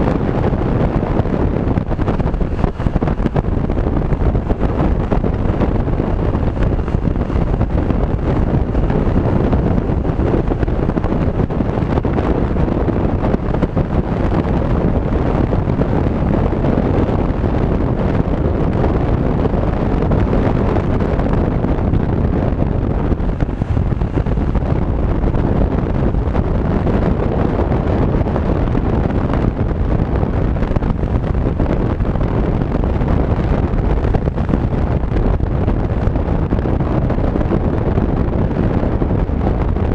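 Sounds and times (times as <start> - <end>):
wind rushing on microphone: 0.0 - 39.9.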